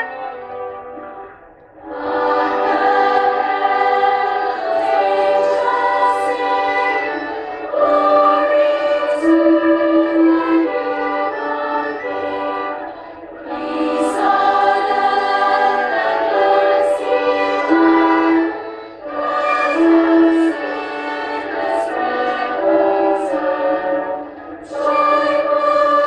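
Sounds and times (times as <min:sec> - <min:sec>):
choir singing long notes: 0:00.0 - 0:26.0.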